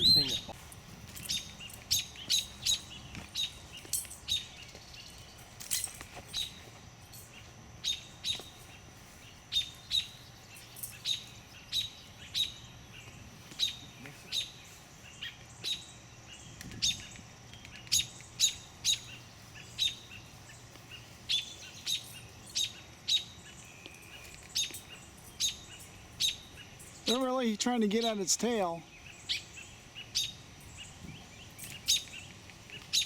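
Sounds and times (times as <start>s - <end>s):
small bird alarm calls: 0.0s - 0.6s, 1.2s - 5.6s, 6.3s - 33.0s.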